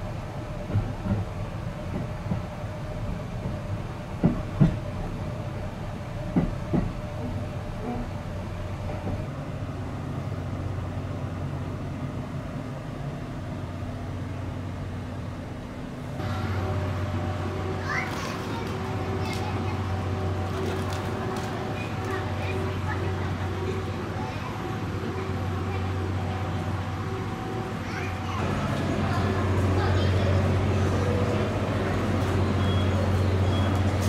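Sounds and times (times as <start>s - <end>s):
train carriage interior rumble: 0.0s - 34.0s.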